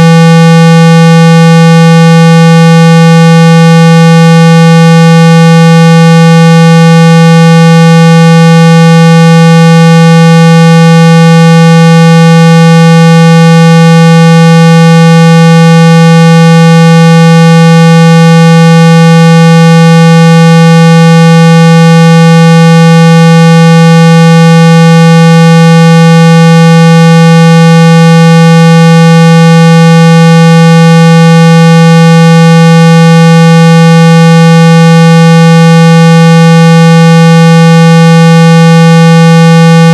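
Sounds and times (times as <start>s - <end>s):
loud buzzy steady tone: 0.0s - 39.9s.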